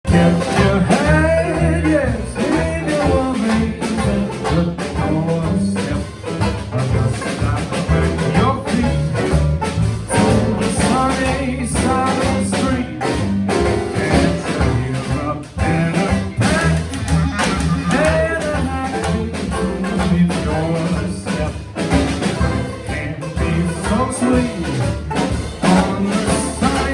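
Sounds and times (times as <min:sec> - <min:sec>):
drum strokes: 0:00.0 - 0:26.9
live jazz band playing: 0:00.0 - 0:26.9.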